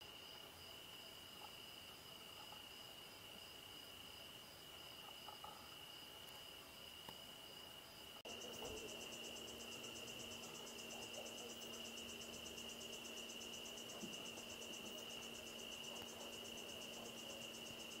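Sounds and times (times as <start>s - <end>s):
crickets steady high trill: 0.0s - 18.0s
rapidly pulsing cricket trill: 0.0s - 18.0s.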